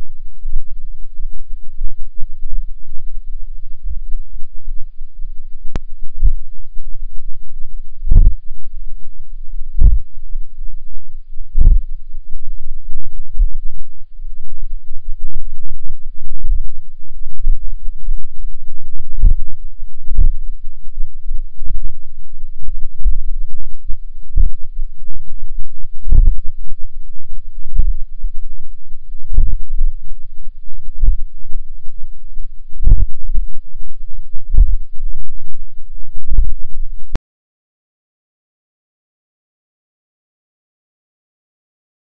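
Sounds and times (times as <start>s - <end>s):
steady low rumble: 0.0s - 37.2s.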